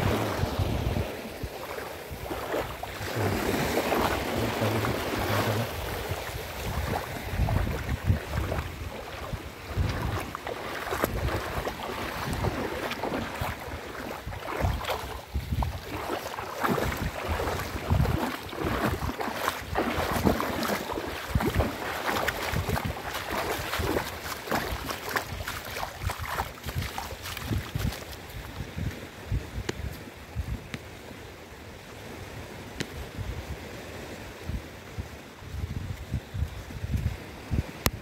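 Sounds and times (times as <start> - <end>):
wind buffeting microphone: 0.0 - 30.8, 34.4 - 38.0
splashing steps in shallow water: 0.0 - 30.9.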